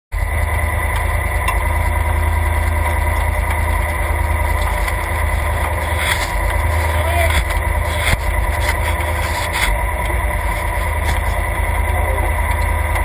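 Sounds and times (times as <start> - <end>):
engine idling with low rumble: 0.1 - 13.0.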